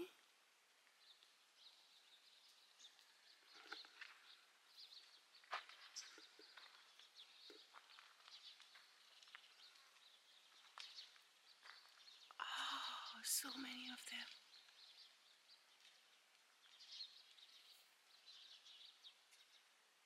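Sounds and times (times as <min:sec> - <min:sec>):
faint bird chirps: 0:01.0 - 0:19.8.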